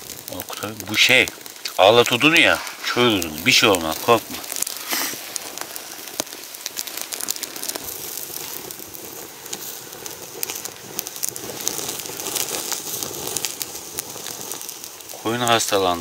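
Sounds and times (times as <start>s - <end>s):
sausage sizzling hiss: 0.0s - 16.0s
twig fire crackling: 0.0s - 16.0s.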